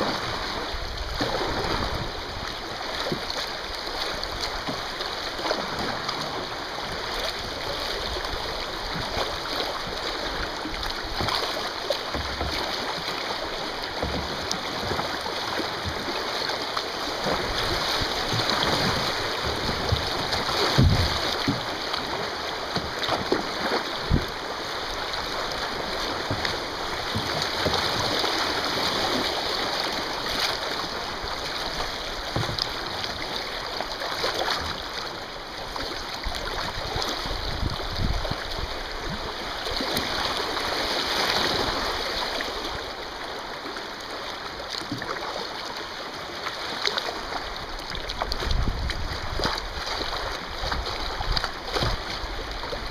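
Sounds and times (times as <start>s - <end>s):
heavy splashes on kayak bow: 0.0s - 52.9s
shallow river water rushing: 0.0s - 52.9s.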